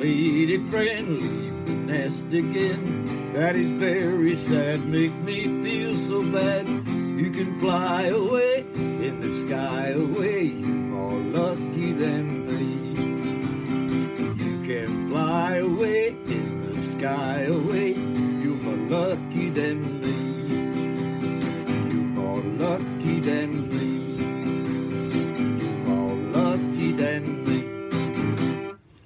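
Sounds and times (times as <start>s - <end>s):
strummed acoustic guitars: 0.0s - 29.0s.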